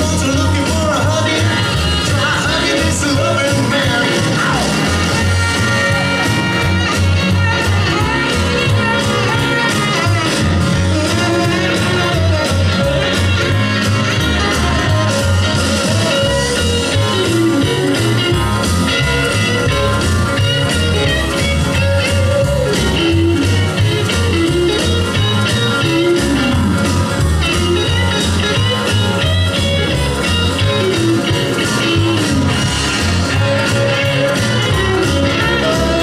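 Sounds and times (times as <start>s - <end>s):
music with guitar and bass beat: 0.0s - 36.0s.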